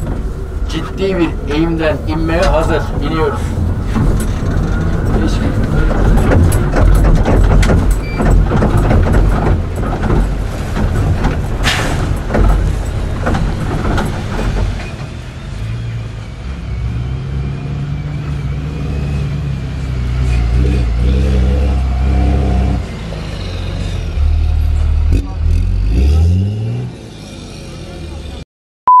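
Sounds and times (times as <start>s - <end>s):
engine droning: 0.0s - 28.4s
vehicle clattering and rattling: 0.0s - 28.4s.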